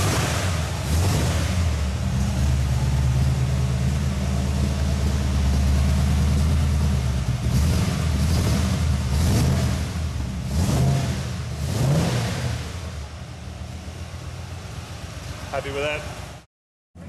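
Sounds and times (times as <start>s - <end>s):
car engine running: 0.0s - 16.4s.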